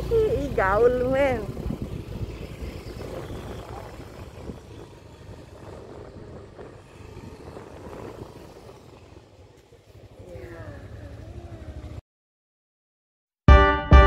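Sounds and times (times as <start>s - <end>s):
vehicle rumble and road noise: 0.0s - 12.0s.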